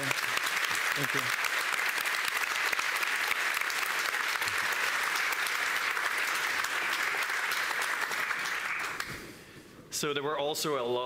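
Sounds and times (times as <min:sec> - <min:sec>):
large audience applauding: 0:00.0 - 0:09.3.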